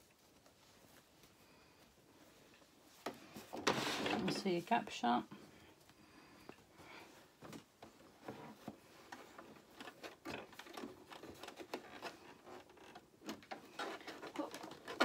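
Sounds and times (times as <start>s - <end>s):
cloth rustling: 0.0s - 15.0s.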